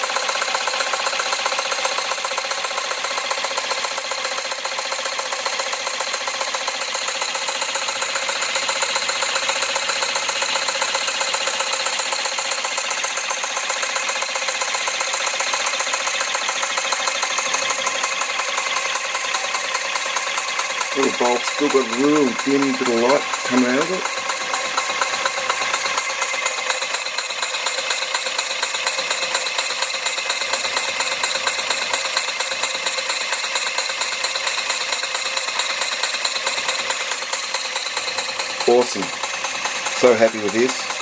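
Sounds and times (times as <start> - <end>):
model steam engine running: 0.0 - 41.0.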